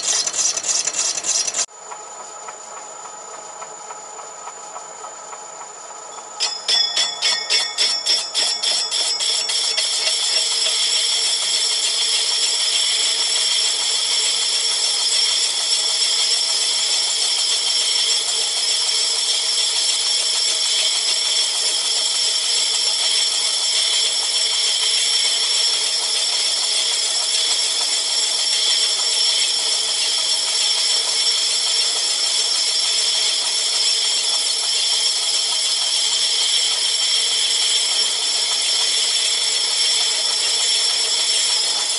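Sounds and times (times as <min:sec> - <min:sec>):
lathe tool cutting metal: 0:00.0 - 0:01.7, 0:06.4 - 0:41.9.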